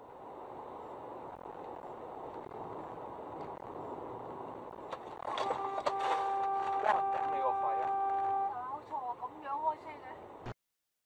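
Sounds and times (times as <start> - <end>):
car road noise from inside cabin: 0.0 - 9.7.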